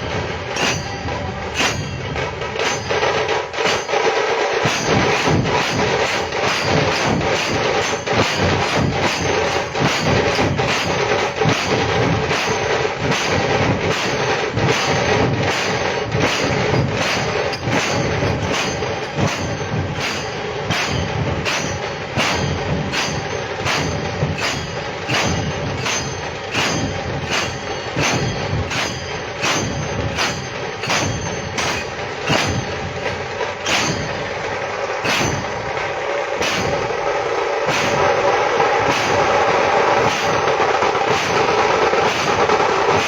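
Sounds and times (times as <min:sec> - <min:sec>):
dense drumming: 0:00.0 - 0:43.0
sharp percussion strikes: 0:00.0 - 0:43.0.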